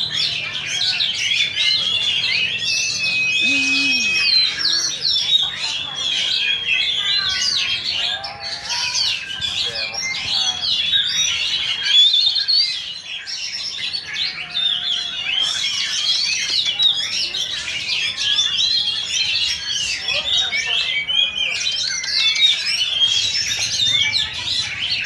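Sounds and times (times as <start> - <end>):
birds singing whistles and chirps: 0.0 - 25.0.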